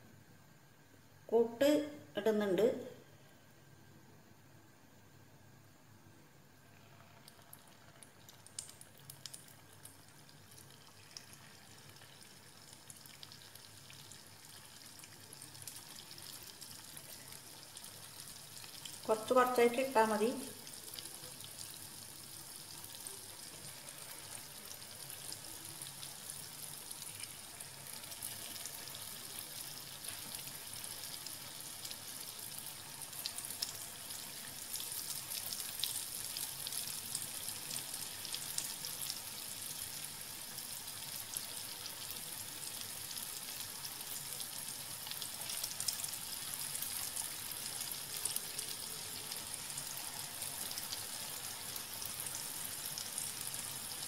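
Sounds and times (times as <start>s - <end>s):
batter sizzling in hot oil: 6.4s - 54.0s.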